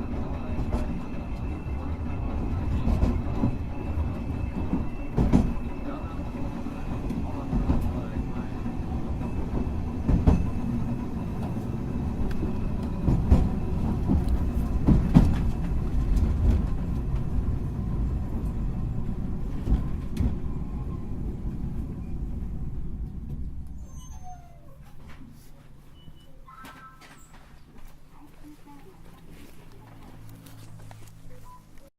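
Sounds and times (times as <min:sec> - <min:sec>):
tram rumbling on rails: 0:00.0 - 0:31.9.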